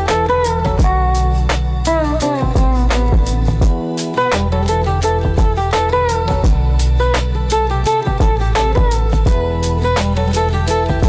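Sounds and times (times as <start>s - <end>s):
instrumental chillhop music: 0.0s - 11.0s.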